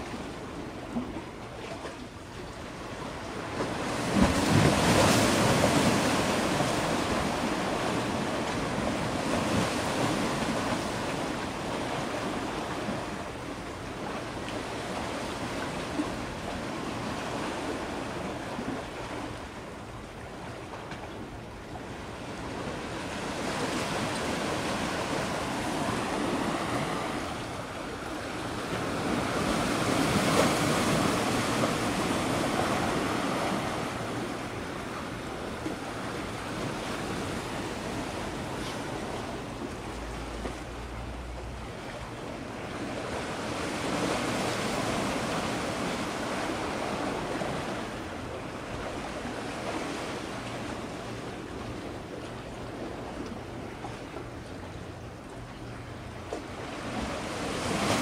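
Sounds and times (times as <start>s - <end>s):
sea waves: 0.0s - 58.0s
wind: 0.0s - 58.0s.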